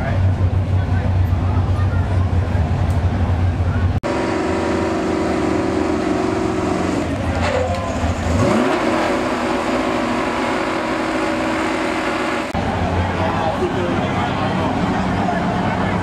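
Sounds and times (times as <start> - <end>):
truck engine revving: 0.2 - 16.0.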